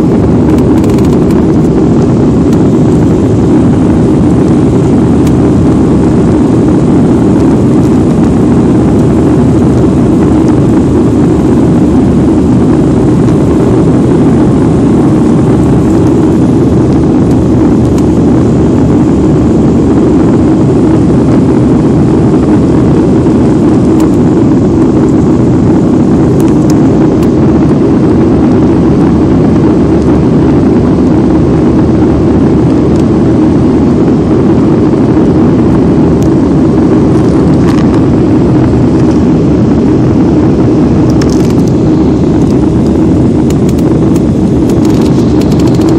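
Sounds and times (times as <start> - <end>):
jet engine roar in cabin: 0.0 - 45.9.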